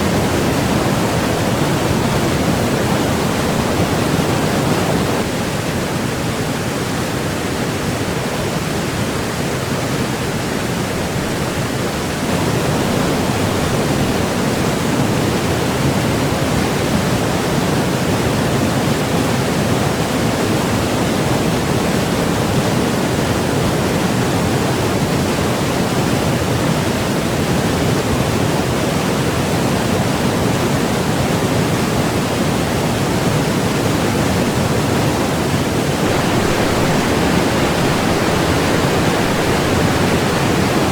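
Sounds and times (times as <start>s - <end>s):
fast white water rushing: 0.0s - 40.9s.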